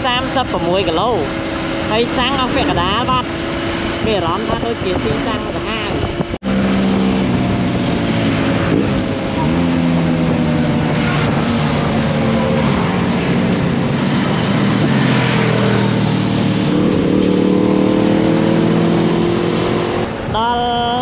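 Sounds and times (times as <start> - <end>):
motorcycle engine running: 0.0 - 20.3
wind rushing past microphone: 0.6 - 21.0.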